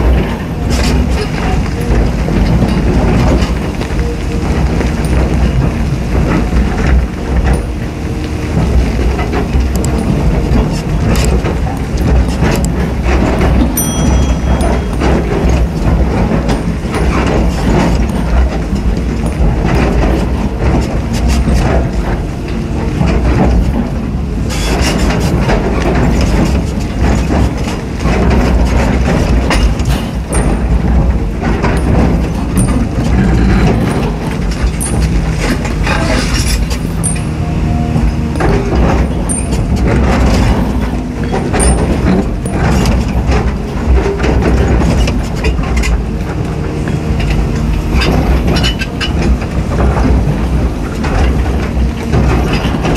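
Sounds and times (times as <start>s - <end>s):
bucket clanking and scraping: 0.0s - 52.9s
diesel engine under hydraulic load: 0.0s - 52.9s.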